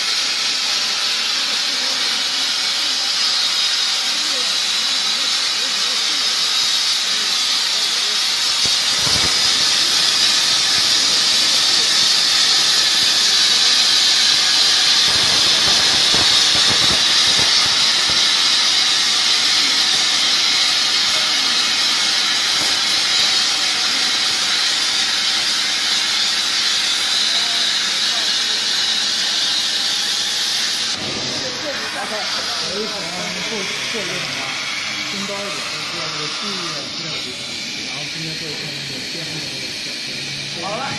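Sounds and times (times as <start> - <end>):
plasma torch hissing: 0.0 - 40.9.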